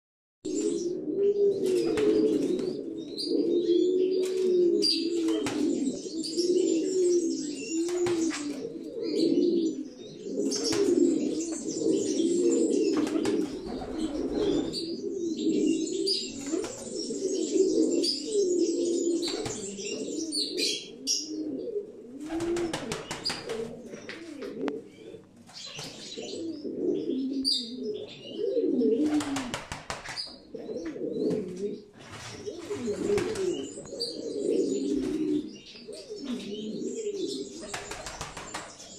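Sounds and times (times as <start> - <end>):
pigeons cooing: 0.5 - 38.9.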